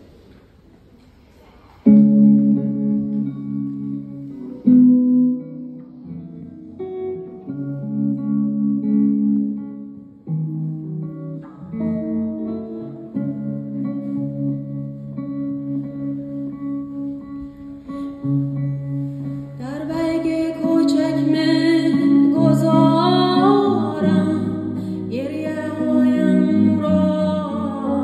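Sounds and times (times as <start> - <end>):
faint room murmur: 0.0 - 22.6
electric guitar slow chords: 1.8 - 28.0.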